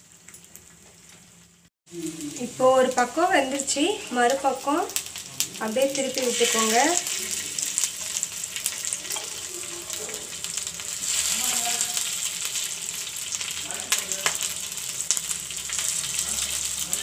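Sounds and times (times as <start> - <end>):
chicken feet sizzling in oil: 0.0 - 17.0.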